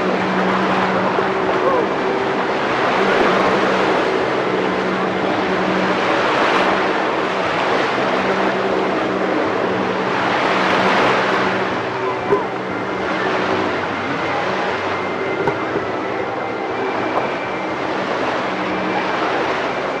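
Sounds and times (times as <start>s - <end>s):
jet ski engine drone: 0.0s - 20.0s
spray and churning water: 0.0s - 20.0s.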